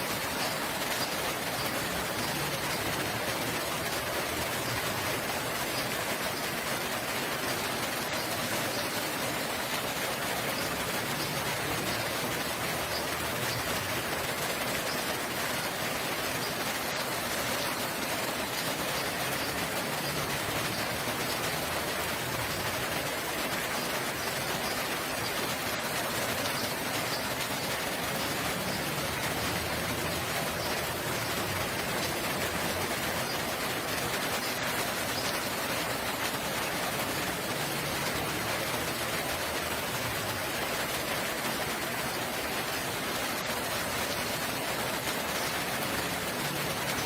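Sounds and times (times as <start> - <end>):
rain falling: 0.0 - 47.0.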